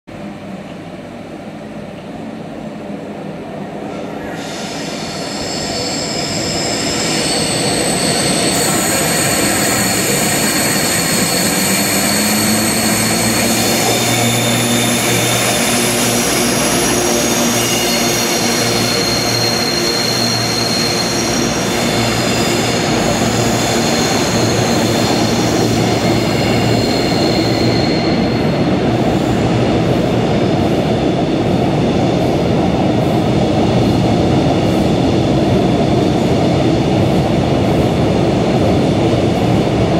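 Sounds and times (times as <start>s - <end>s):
train rumble: 0.1s - 39.9s.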